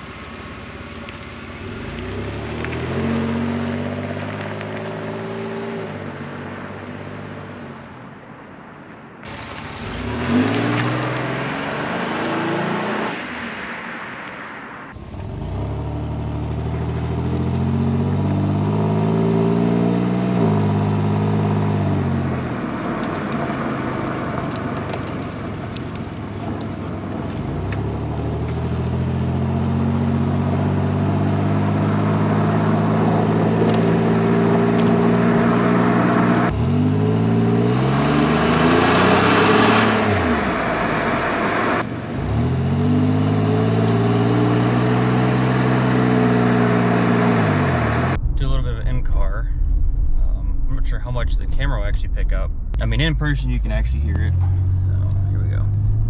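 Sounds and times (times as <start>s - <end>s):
car engine accelerating: 0.0s - 7.6s, 9.3s - 13.7s, 14.9s - 56.0s
road and tyre noise: 0.0s - 56.0s.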